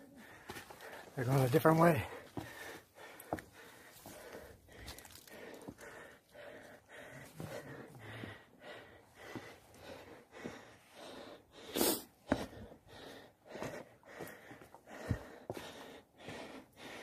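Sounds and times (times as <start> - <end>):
heavy laboured breathing: 0.0 - 1.3, 1.9 - 17.0
faint footsteps on trail: 0.0 - 17.0.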